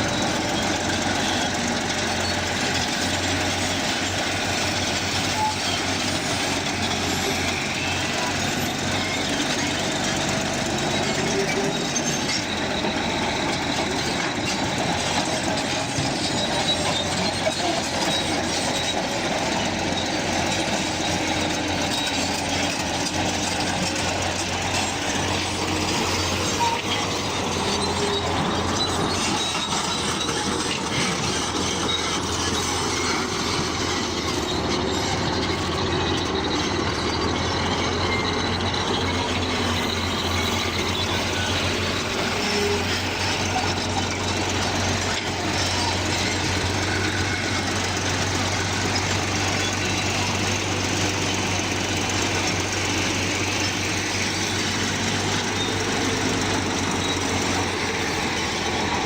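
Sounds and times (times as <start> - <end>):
bulldozer engine: 0.0 - 59.0
steel tracks running: 0.0 - 59.0.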